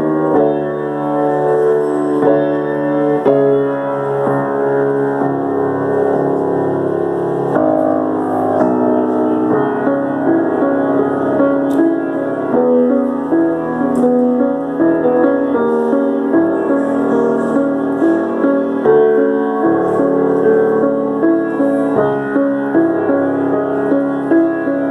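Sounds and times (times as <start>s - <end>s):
solo piano chords: 0.0s - 24.9s.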